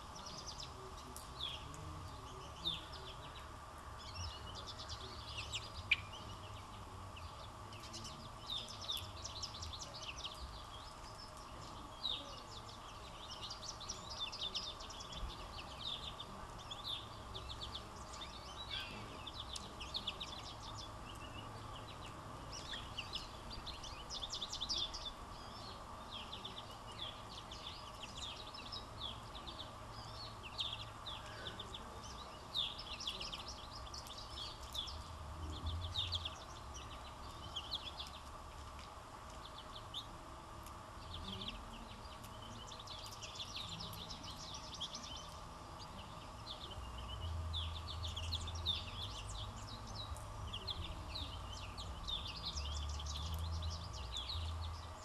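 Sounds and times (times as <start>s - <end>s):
faint steady hum: 0.0s - 55.0s
songbirds chirping: 0.0s - 55.0s.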